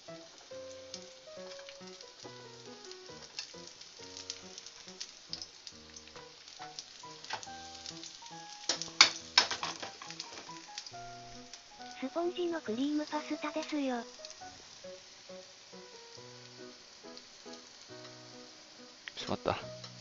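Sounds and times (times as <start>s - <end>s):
background music: 0.0s - 20.0s
garlic sizzling in hot oil: 0.0s - 20.0s.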